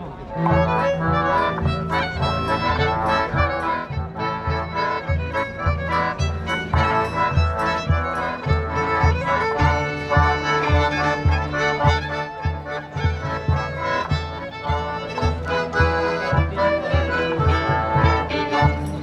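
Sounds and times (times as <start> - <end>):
folk band playing lively tune: 0.0 - 19.0
steady bass beat: 0.4 - 19.0.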